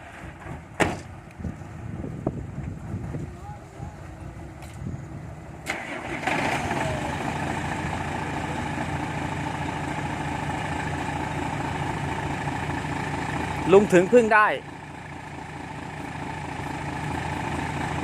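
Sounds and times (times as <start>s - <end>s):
truck diesel engine idling: 1.2s - 18.0s.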